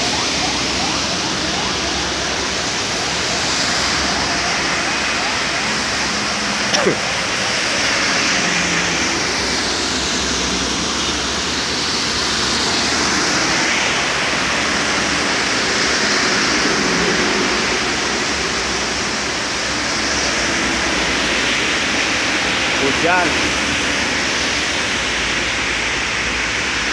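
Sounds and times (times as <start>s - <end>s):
heavy rain: 0.0s - 26.9s
tyres hissing on wet road: 0.0s - 26.9s.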